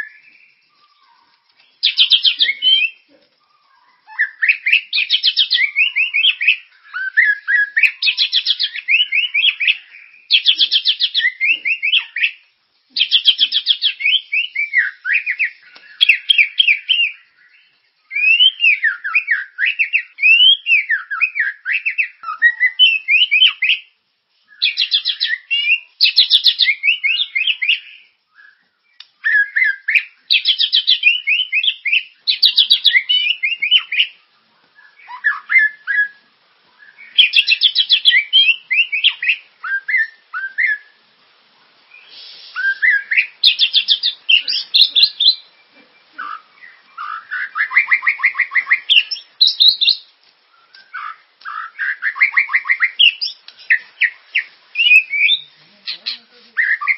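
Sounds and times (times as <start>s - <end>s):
songbird trills and chattering: 0.0s - 41.0s, 41.8s - 56.9s.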